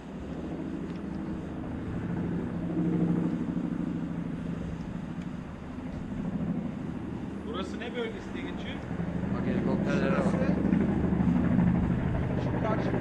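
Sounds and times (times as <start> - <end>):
helicopter engine and rotor hum: 0.0 - 13.0.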